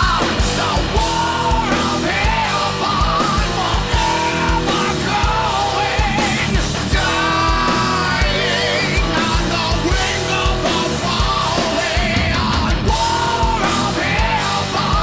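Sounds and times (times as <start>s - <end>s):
driving drum beat: 0.0s - 15.0s
heavy rock music: 0.0s - 15.0s
sung vocals: 0.0s - 15.0s.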